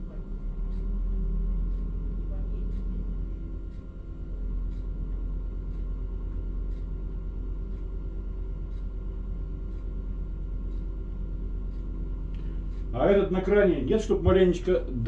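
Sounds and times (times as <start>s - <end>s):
crane engine rumbling: 0.0s - 15.0s
faint ticking: 0.6s - 15.0s.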